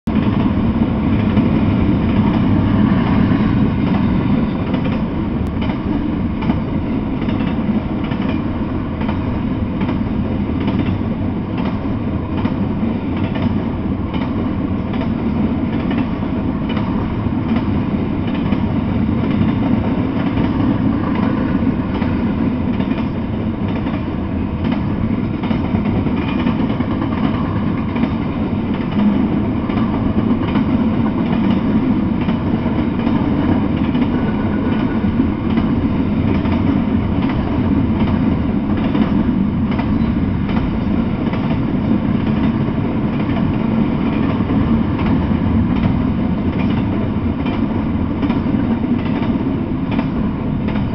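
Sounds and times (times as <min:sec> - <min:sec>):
steel wheels on rail: 0:00.1 - 0:50.9.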